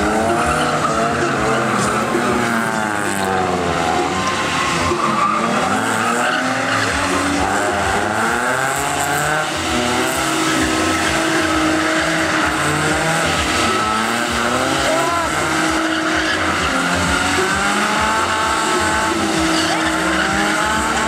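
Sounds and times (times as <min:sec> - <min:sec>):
car engine revving hard: 0:00.0 - 0:21.0
tyres squealing: 0:00.0 - 0:21.0.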